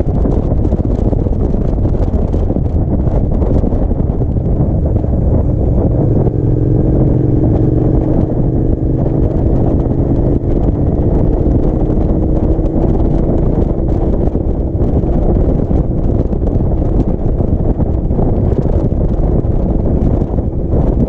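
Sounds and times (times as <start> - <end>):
motorcycle engine cruising: 0.0 - 21.0
wind buffeting microphone: 0.0 - 21.0.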